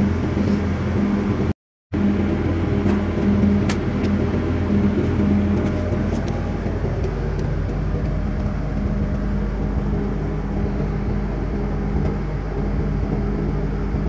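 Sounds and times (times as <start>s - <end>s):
diesel generator engine running: 0.0s - 14.0s.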